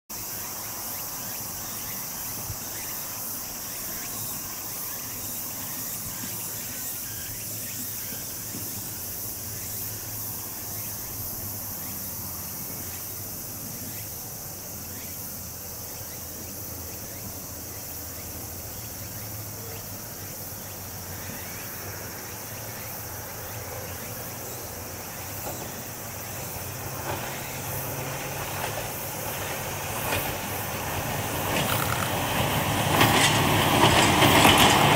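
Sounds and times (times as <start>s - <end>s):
cicadas chorus: 0.1s - 34.9s
electric train rumble: 0.1s - 34.9s.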